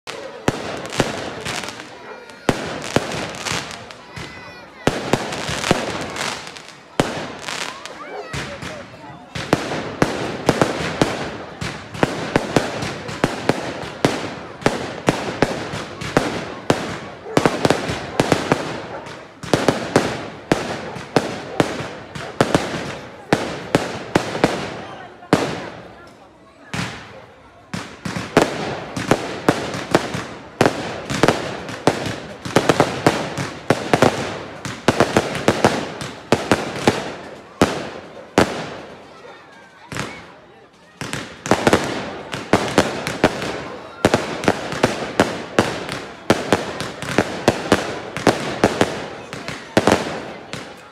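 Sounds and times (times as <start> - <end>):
fireworks bursting with sharp bangs: 0.0 - 50.9.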